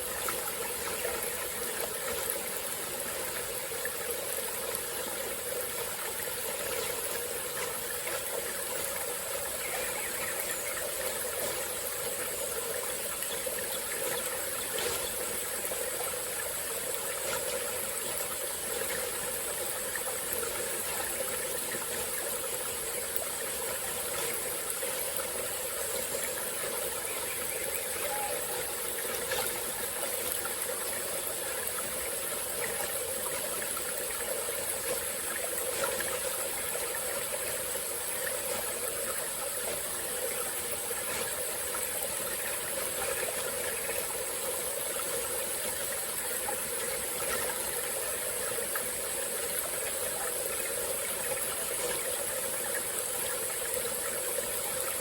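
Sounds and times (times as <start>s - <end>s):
forest stream babbling: 0.0s - 55.0s.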